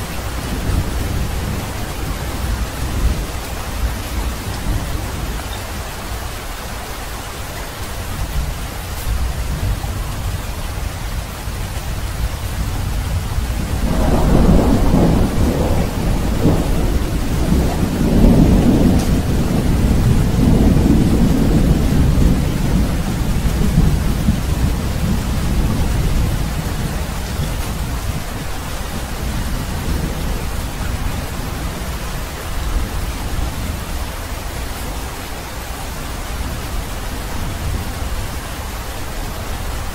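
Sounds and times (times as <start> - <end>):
low roll of thunder: 0.0 - 5.9, 8.2 - 34.3
steady rain: 0.0 - 39.9.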